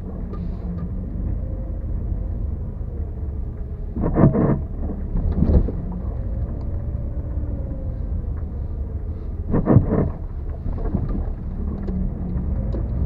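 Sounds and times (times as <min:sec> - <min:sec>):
car suspension creaking: 0:00.0 - 0:13.0
low rumble of moving car: 0:00.0 - 0:13.0.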